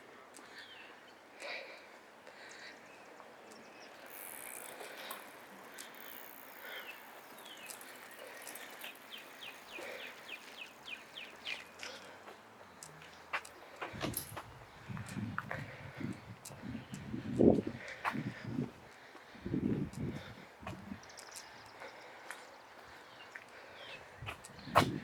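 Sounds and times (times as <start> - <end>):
songbirds chirping: 0.0 - 25.0
outdoor background hum: 1.4 - 25.0.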